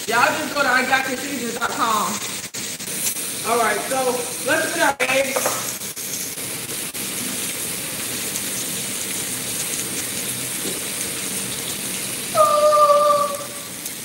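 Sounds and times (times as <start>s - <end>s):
steaks sizzling on a grill: 0.0s - 12.3s, 13.6s - 14.0s.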